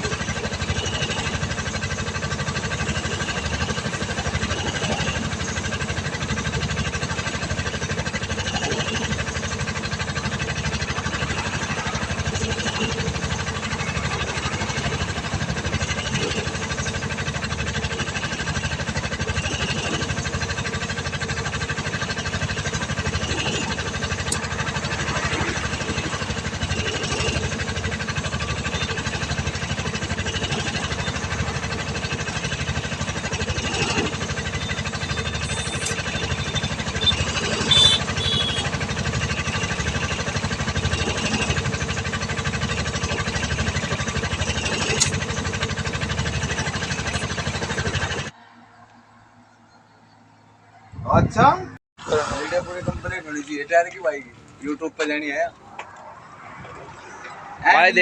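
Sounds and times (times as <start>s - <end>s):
engine throbbing: 0.0s - 58.0s.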